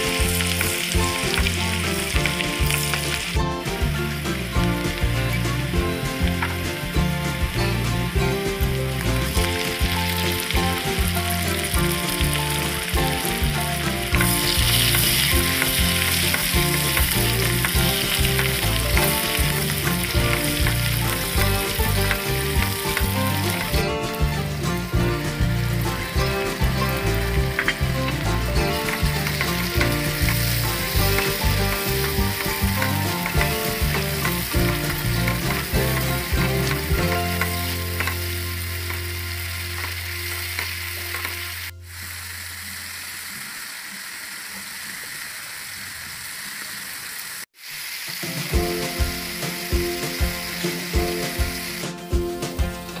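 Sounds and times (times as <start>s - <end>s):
background music with steady beat: 0.0s - 40.0s, 48.2s - 53.0s
curry sizzling in a pan: 0.0s - 53.0s.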